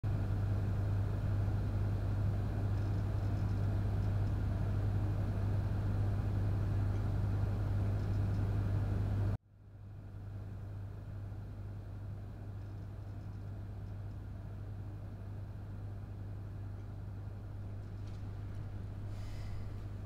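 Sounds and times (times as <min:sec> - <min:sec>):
fluorescent lights humming: 0:00.1 - 0:20.0.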